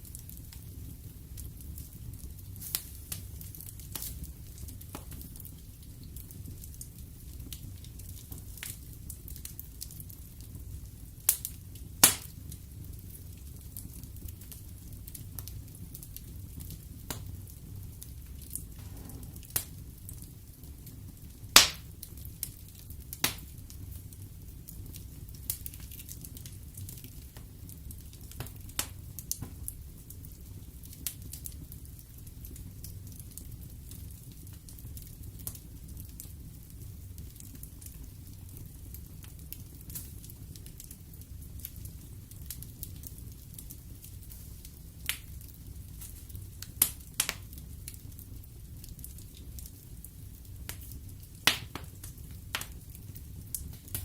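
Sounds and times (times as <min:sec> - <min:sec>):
burning logs crackling and popping: 0:00.0 - 0:54.0
low rumble of flames: 0:00.0 - 0:54.0.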